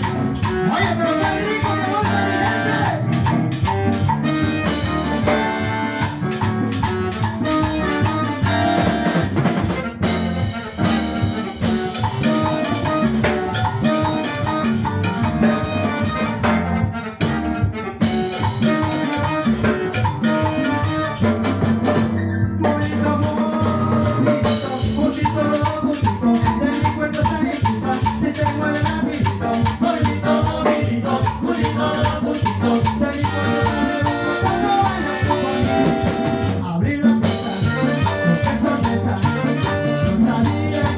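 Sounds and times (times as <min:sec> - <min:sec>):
latin dance band playing salsa: 0:00.0 - 0:40.9.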